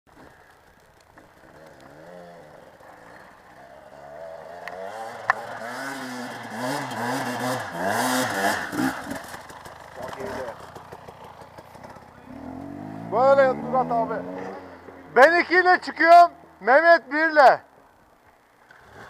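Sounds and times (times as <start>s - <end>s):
motocross bike engine revving: 1.4s - 16.7s.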